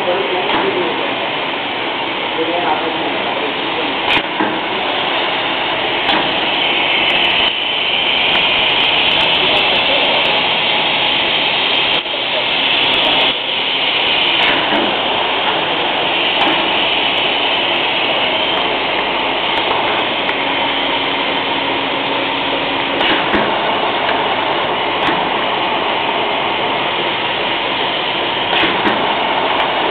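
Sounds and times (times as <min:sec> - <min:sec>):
machine motors and rollers: 0:00.0 - 0:29.9.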